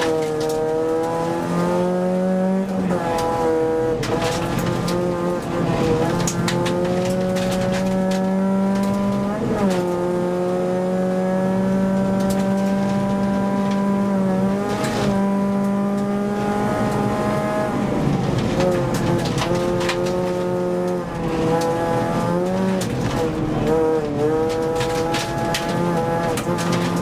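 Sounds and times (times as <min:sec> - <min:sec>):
gravel pinging against car: 0:00.0 - 0:27.0
rally car engine revving: 0:00.0 - 0:27.0.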